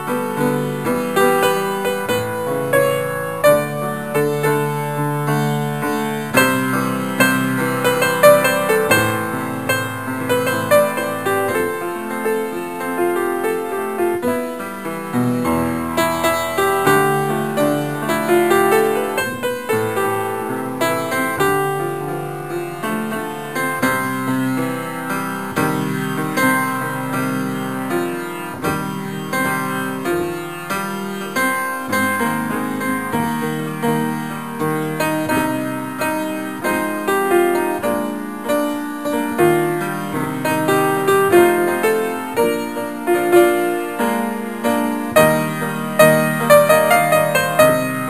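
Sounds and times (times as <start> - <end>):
gentle piano music: 0.0 - 48.0.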